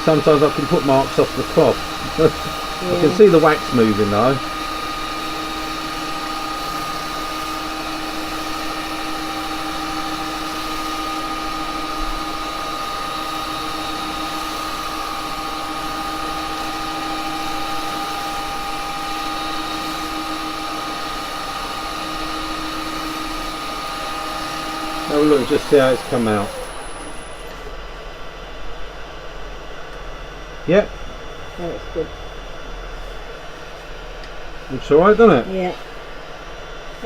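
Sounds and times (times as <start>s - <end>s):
wood lathe motor whine: 0.0s - 37.0s.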